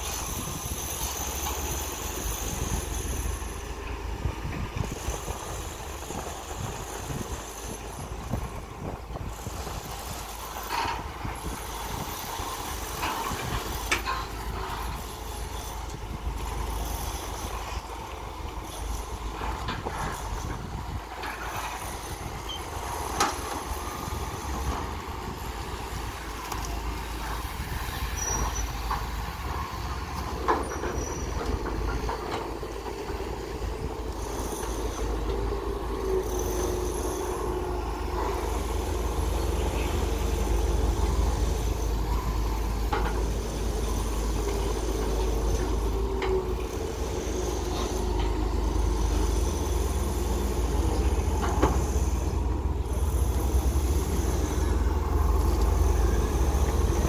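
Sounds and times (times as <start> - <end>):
diesel engines droning: 0.0 - 57.0
whining hydraulic tone: 0.0 - 57.0.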